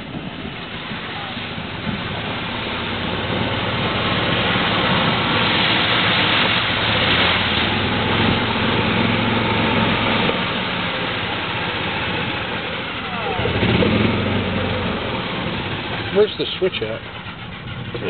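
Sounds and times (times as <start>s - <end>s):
golf cart motor humming: 0.0s - 18.0s.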